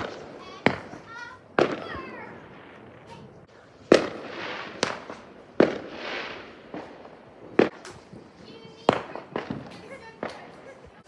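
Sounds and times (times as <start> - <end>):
firework bangs: 0.0 - 11.0
firework crackle: 0.0 - 11.0.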